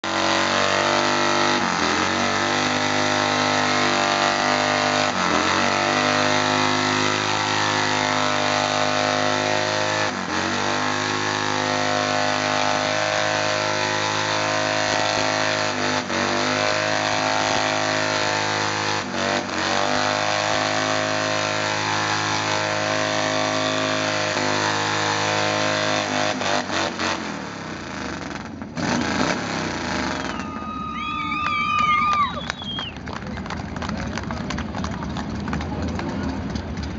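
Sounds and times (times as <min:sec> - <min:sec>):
motorcycle engine revving: 0:00.0 - 0:30.4.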